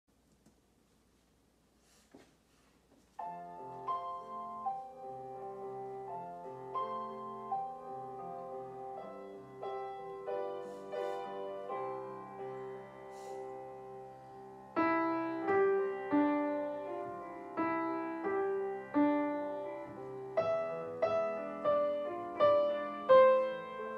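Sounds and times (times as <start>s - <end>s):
solo piano melody: 3.0s - 23.9s.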